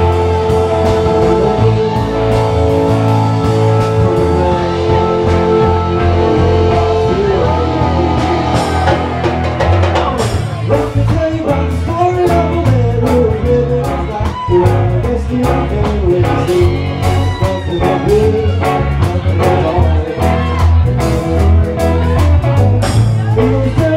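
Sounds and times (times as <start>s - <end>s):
gliding lead melody: 0.0s - 23.8s
bass groove: 0.0s - 23.9s
drum kit: 0.0s - 23.9s
electric guitar: 0.0s - 23.9s
keyboards: 0.0s - 23.9s.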